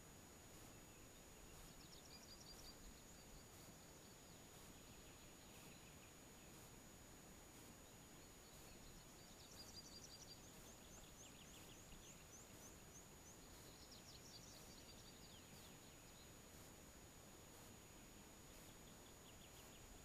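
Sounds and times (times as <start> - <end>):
faint songbird notes: 0.0 - 20.0.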